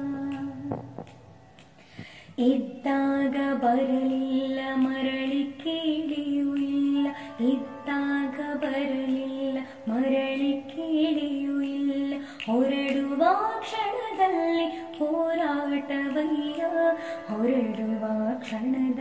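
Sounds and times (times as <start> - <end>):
woman singing: 0.0 - 1.2, 2.2 - 19.0.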